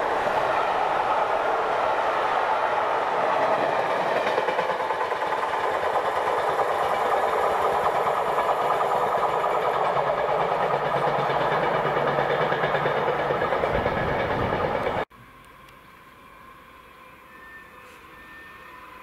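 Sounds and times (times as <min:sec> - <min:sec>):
freight train passing: 0:00.0 - 0:15.1, 0:16.1 - 0:19.0.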